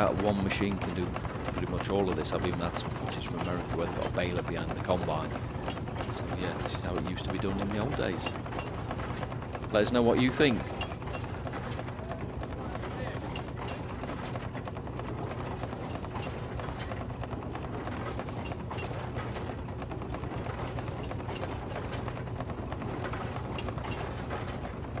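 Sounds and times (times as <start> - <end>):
machinery clattering and ticking: 0.0 - 25.0
threshing machine humming: 0.0 - 25.0.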